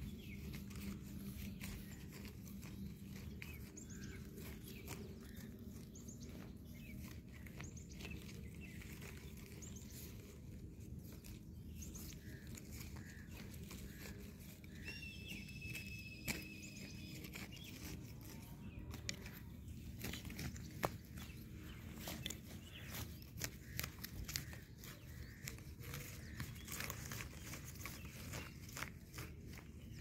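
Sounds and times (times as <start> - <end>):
bird chirps: 0.0 - 10.3, 11.1 - 30.0.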